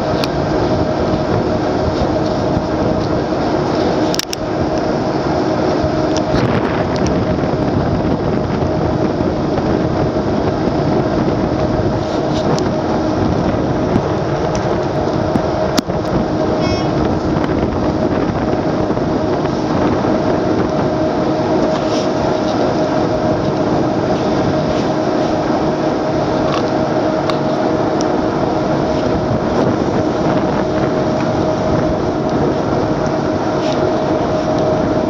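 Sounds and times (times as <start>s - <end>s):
boat engine droning: 0.0s - 35.0s
rushing water: 0.0s - 35.0s
wind: 0.0s - 35.0s.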